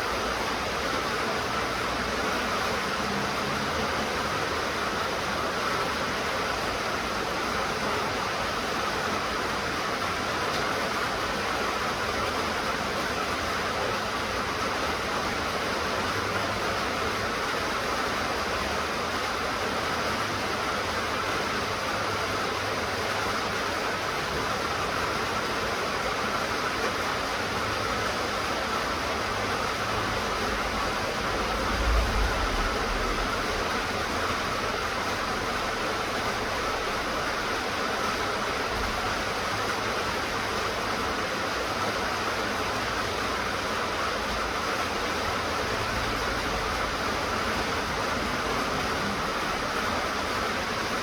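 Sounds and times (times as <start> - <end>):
steady rainfall: 0.0 - 51.0.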